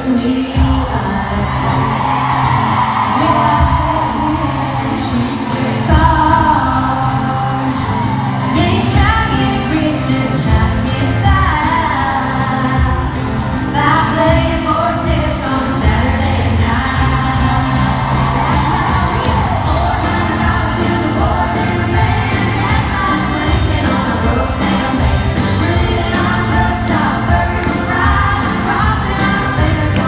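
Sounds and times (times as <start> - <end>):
country band playing live: 0.0 - 30.0
women singing: 3.2 - 30.0.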